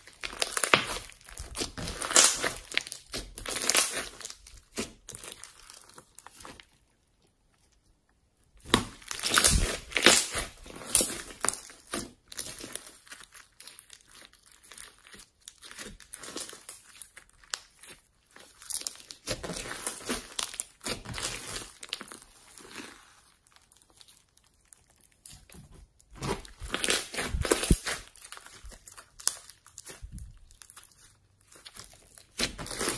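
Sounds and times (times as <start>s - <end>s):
slime squelching and crackling: 0.0s - 32.9s.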